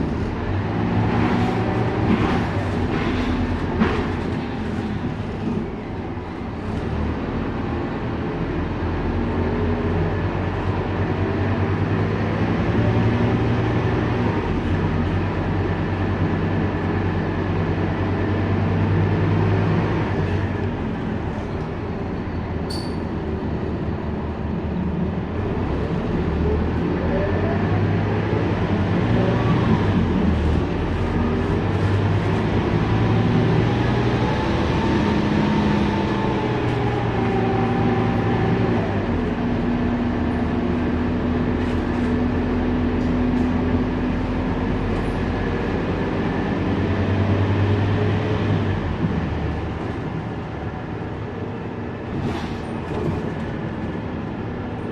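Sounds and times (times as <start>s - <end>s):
bus diesel engine: 0.0s - 54.9s.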